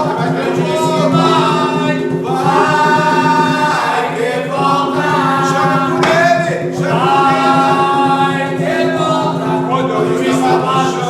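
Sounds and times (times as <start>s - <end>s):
group singing chant unaccompanied: 0.0s - 11.0s.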